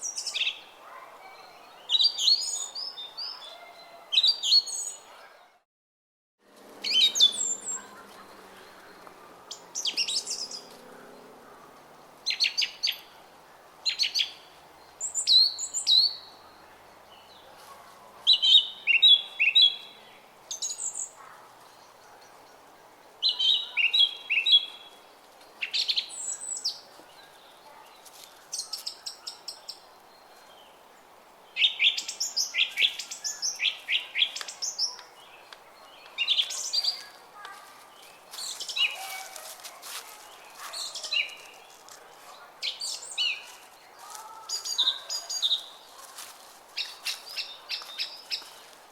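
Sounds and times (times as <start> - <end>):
songbirds chirping: 0.0 - 5.6, 6.4 - 48.9.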